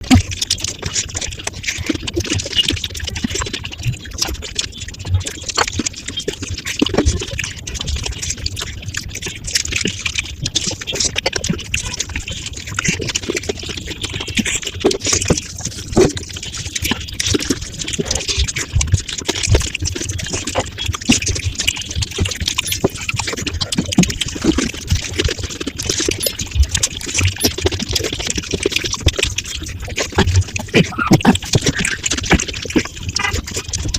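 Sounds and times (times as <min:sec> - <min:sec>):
sped-up wet chewing and slurping: 0:00.0 - 0:33.9.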